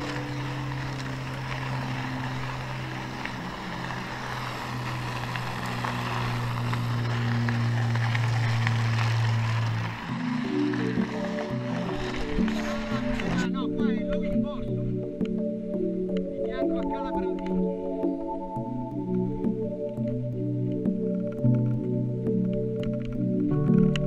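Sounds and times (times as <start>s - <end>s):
bike rolling low drone: 0.0s - 24.0s
gravel crunching: 0.0s - 24.0s.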